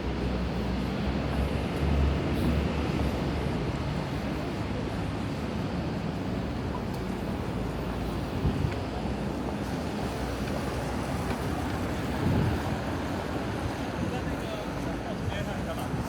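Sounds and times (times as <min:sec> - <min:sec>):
rumble of passing traffic: 0:00.0 - 0:16.0.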